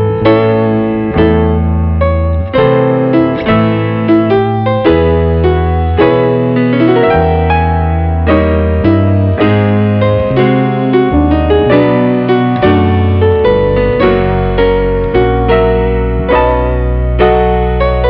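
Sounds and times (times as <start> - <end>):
calm piano music: 0.0 - 18.0.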